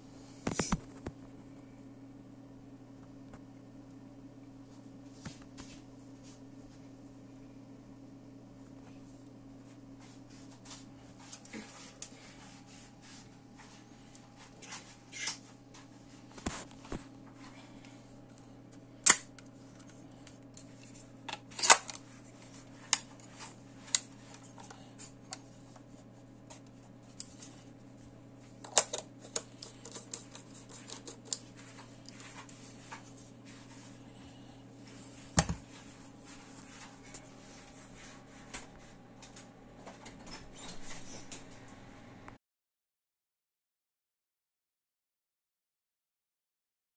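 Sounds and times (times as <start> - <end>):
steady low hum: 0.0 - 42.4.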